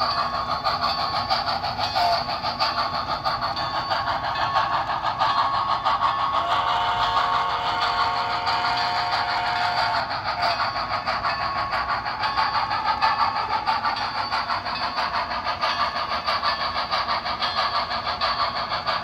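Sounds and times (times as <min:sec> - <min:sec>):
model train steam chuff: 0:00.0 - 0:19.0.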